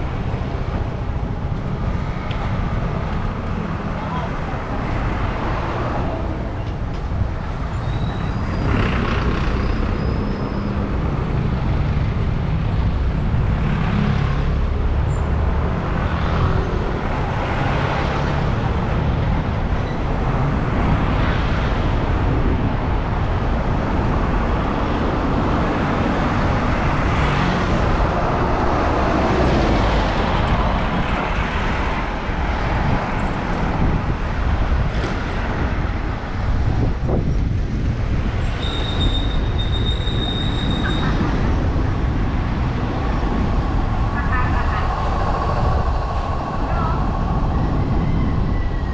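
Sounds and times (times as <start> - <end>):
city traffic noise: 0.0 - 48.9
vehicles passing: 0.0 - 48.9
wind rumbling on microphone: 0.0 - 48.9.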